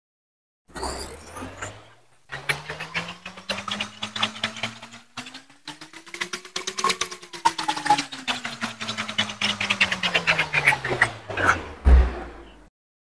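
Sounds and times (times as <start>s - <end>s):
plastic gear clicking and rattling: 0.7s - 11.5s.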